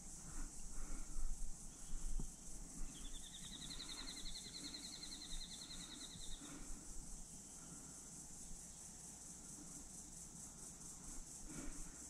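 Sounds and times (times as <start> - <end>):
chorus of insects: 0.0 - 12.0.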